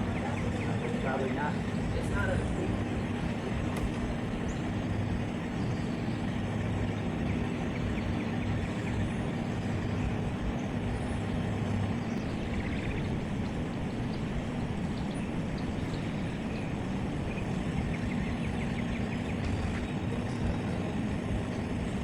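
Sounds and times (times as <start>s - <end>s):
mechanical drone with low hum: 0.0s - 22.0s.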